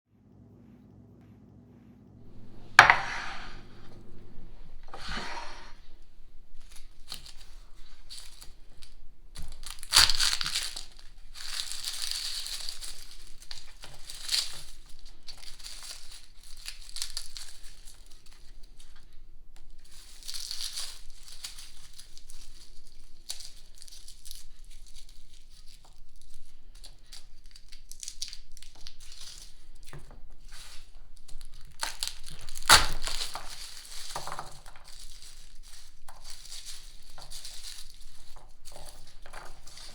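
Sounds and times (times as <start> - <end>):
garlic skins crinkling: 2.2 - 39.9
garlic cracking: 2.3 - 39.9.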